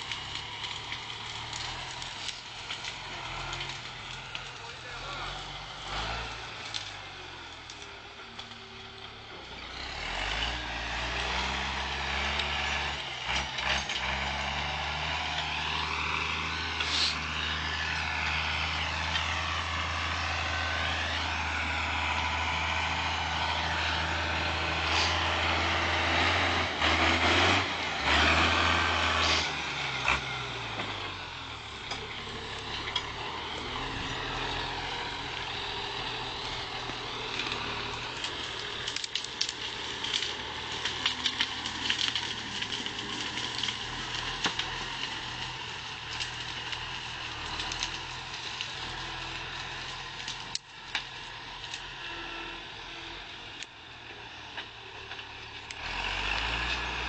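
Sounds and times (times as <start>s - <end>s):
brush and branches snapping: 0.0s - 52.4s, 53.6s - 57.0s
tractor diesel engine working: 0.0s - 57.0s.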